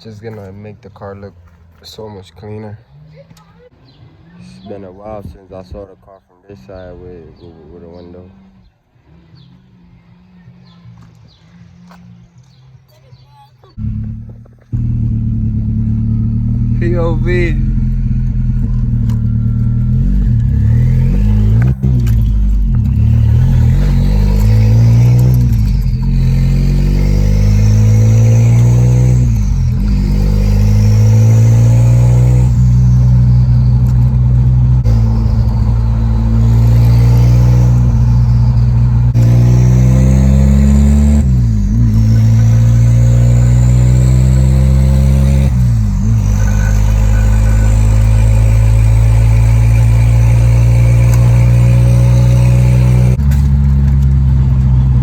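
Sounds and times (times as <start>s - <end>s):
car engine accelerating: 0.0s - 12.9s, 13.7s - 55.0s.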